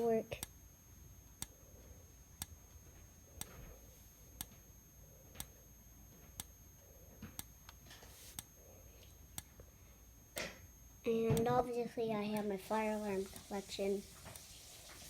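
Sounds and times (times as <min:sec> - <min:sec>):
faint strobe clicking: 0:00.0 - 0:15.0.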